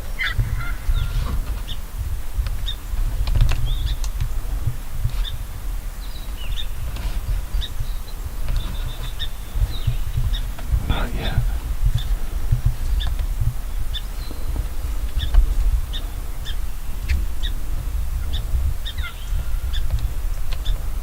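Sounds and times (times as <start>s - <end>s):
small birds chirping: 0.0s - 21.0s
steady low rumble: 0.0s - 21.0s.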